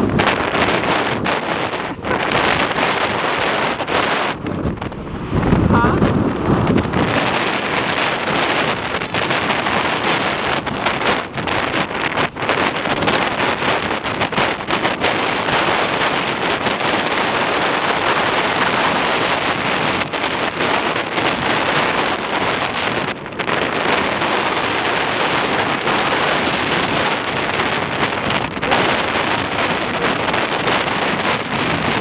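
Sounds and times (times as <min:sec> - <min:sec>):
wind blasting microphone: 0:00.0 - 0:32.0.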